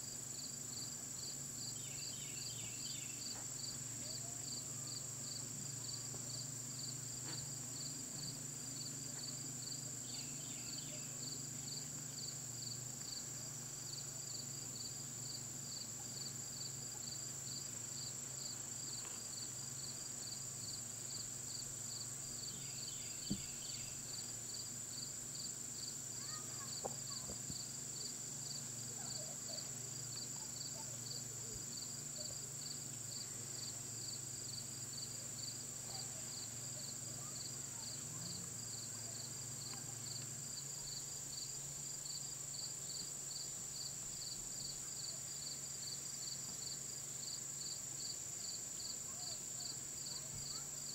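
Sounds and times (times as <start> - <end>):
crickets chirping: 0.0 - 50.9.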